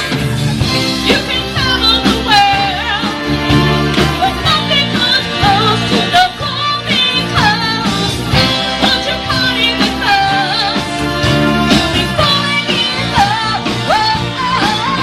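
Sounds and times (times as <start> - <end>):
live band playing rock pop: 0.0 - 15.0.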